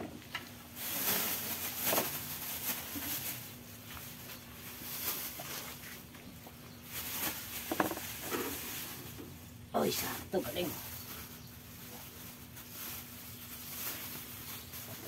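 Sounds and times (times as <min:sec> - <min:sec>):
plastic bag rustling and crinkling: 0:00.1 - 0:15.0.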